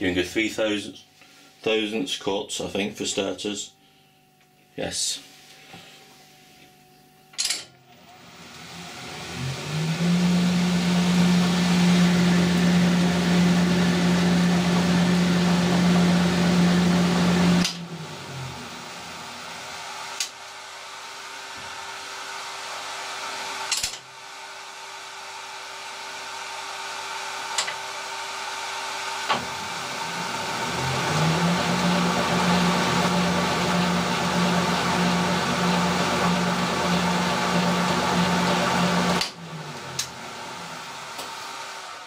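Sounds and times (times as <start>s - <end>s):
lathe running: 8.3s - 42.0s.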